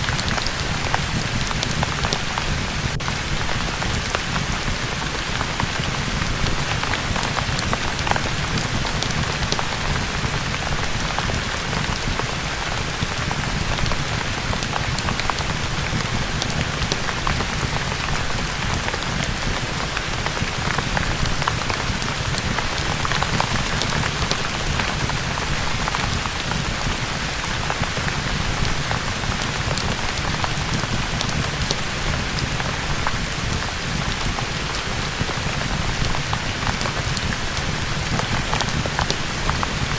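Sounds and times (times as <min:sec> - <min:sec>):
crackling fireplace: 0:00.0 - 0:39.9
steady rain: 0:00.0 - 0:39.9.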